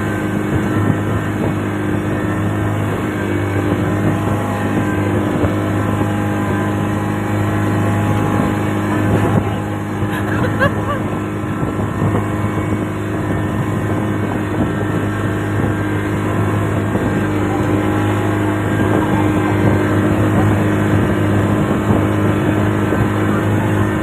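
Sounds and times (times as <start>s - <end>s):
boat engine droning: 0.0s - 24.0s
water noise: 0.0s - 24.0s
wind: 0.0s - 24.0s.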